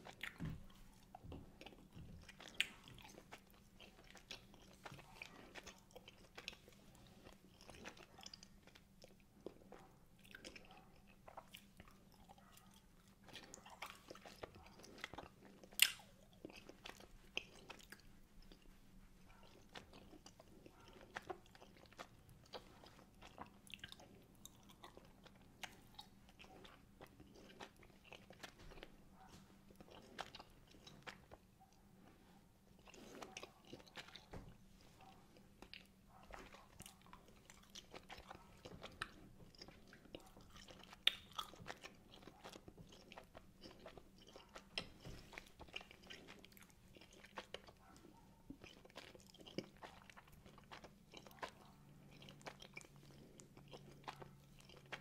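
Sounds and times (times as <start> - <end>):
chewing gummy candy: 0.0 - 55.0.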